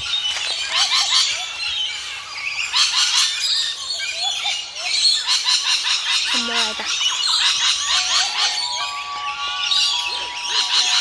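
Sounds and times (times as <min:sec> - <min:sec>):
many birds chirping: 0:00.0 - 0:11.0.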